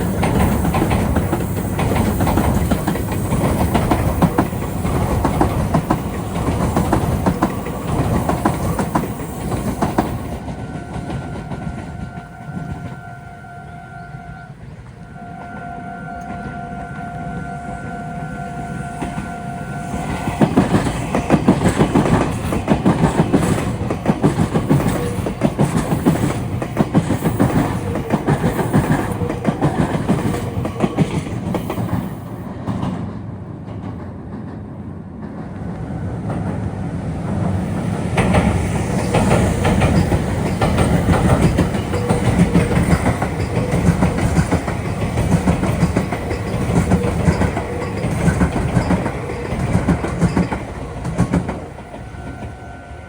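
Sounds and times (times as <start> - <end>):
train wheels clickety-clack: 0.0 - 13.4, 14.9 - 52.8.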